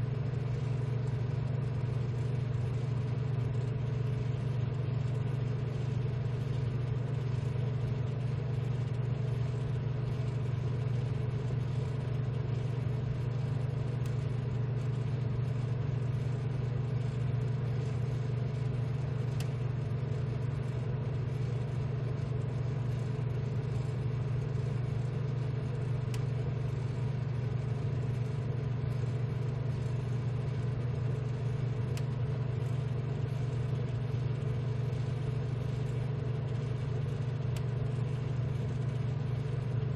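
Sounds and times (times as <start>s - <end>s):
fans and blowers humming: 0.0s - 39.9s.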